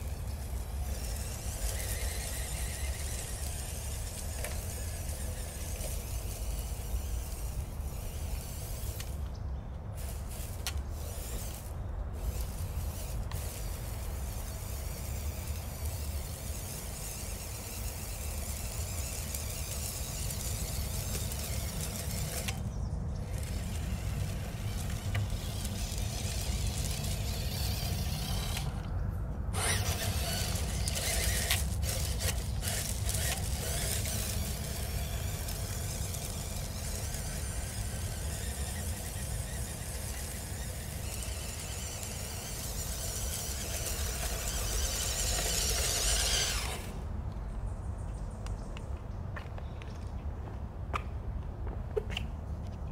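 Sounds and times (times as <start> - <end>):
small electric motor whining: 0.0 - 47.0.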